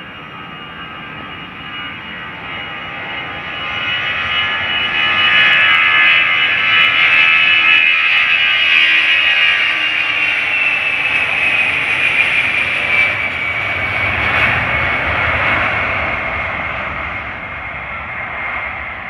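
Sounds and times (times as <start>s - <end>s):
jet engine rushing noise: 0.0s - 19.0s
jet engines whining: 0.0s - 19.0s.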